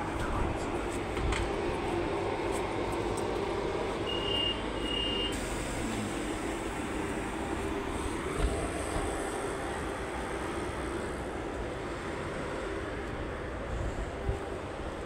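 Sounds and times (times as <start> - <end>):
city buses droning: 0.0 - 15.0.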